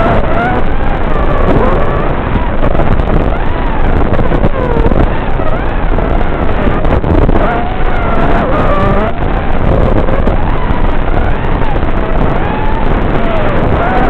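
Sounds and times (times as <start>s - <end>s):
drone motors whining: 0.0s - 14.0s
steady rush of noise: 0.0s - 14.0s.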